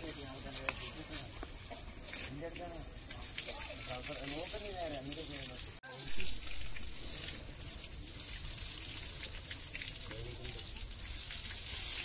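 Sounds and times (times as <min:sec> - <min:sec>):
hose water spraying and splashing: 0:00.0 - 0:12.0.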